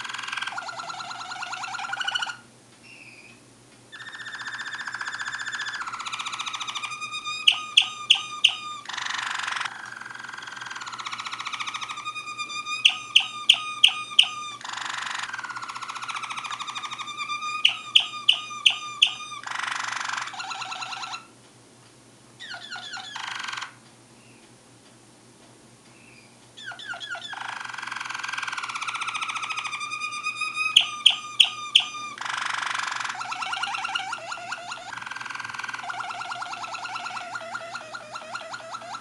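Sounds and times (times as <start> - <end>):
canary singing: 0.0 - 21.3, 22.4 - 24.5, 25.9 - 39.0.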